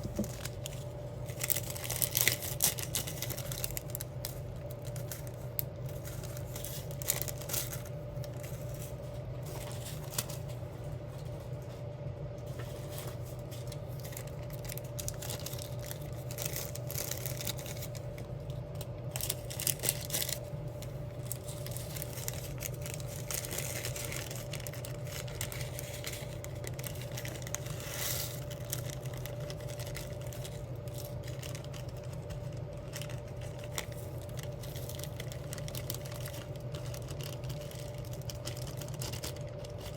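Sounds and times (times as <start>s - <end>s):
low room hum: 0.0s - 39.9s
plastic rustling: 0.0s - 39.9s.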